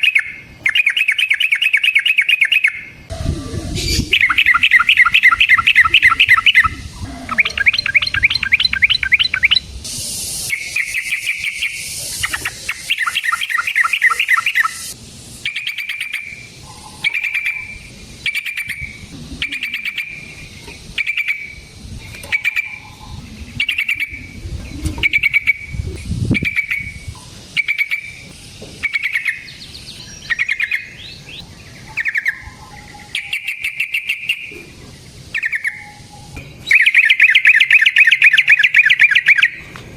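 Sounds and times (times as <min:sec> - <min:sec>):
bulbul singing: 0:00.0 - 0:39.7.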